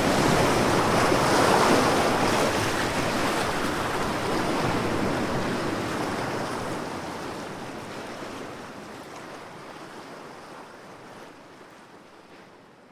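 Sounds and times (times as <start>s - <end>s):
ocean waves washing on shore: 0.0s - 12.3s.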